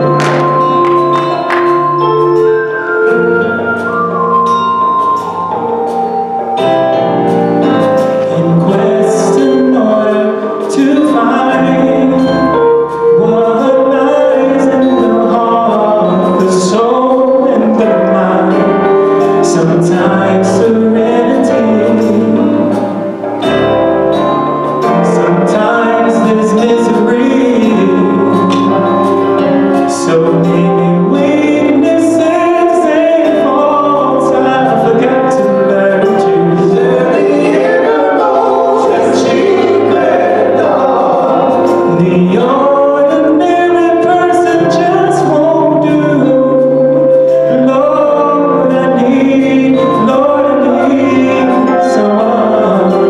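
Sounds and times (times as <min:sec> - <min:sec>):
men singing gospel in harmony: 0:08.0 - 0:23.0, 0:24.8 - 0:53.0.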